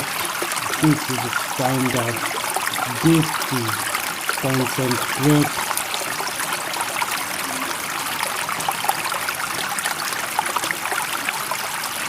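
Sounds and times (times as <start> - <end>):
water trickling and babbling: 0.0 - 12.0.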